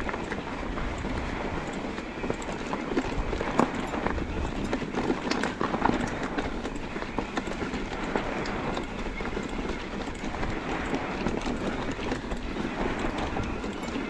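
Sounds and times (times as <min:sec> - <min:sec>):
wheels knocking on rocks: 0:00.0 - 0:14.0.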